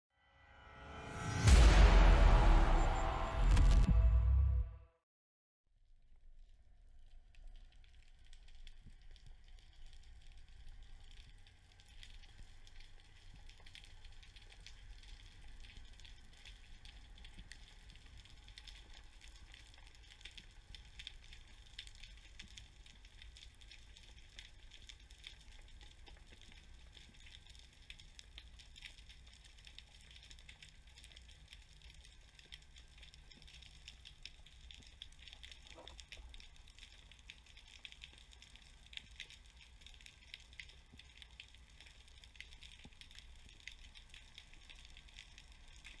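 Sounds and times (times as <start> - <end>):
snapping shrimp crackling underwater: 6.9 - 46.0.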